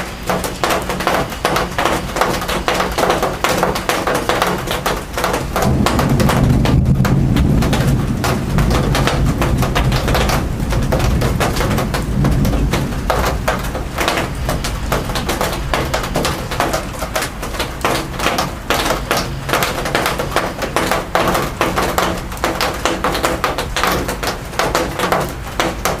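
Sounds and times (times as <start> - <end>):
raindrops tapping on hard surface: 0.0 - 26.0.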